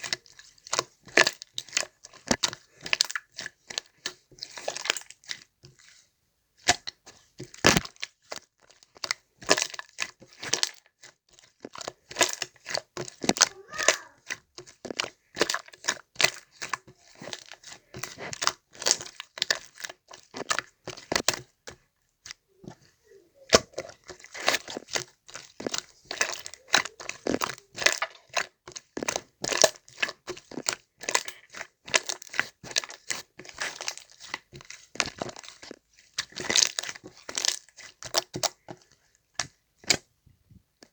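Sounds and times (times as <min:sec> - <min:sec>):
slime being squished by hand: 0:00.0 - 0:06.0, 0:06.6 - 0:40.1.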